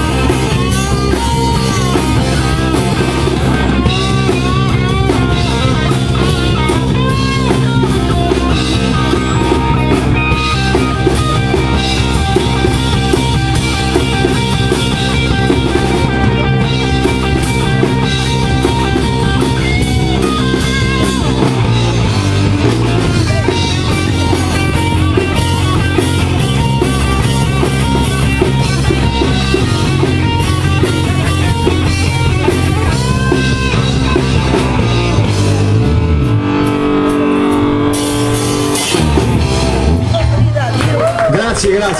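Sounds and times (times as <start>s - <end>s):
bass line: 0.0s - 41.9s
drum kit: 0.0s - 41.9s
electric guitar: 0.0s - 41.9s.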